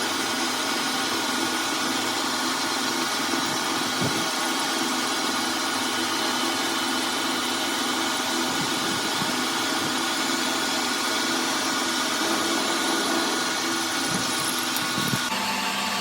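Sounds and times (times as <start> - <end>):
machine tool humming: 0.0 - 16.0.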